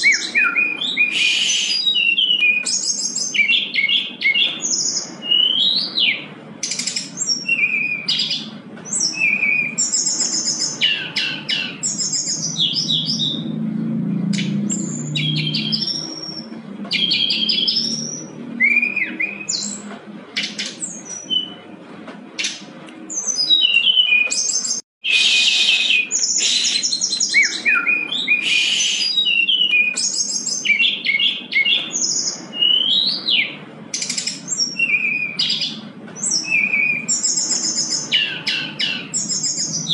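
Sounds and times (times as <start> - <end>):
bird song with whistles and trills: 0.0 - 21.8, 22.4 - 39.9.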